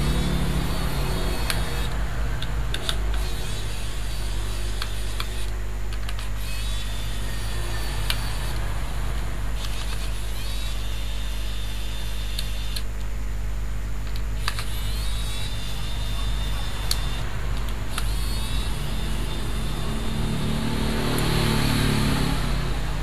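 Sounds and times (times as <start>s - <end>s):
low fan hum: 0.0s - 23.0s.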